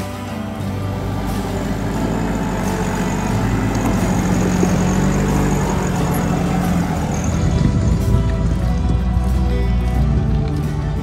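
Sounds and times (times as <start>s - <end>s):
off-road vehicle engine droning: 0.0s - 11.0s.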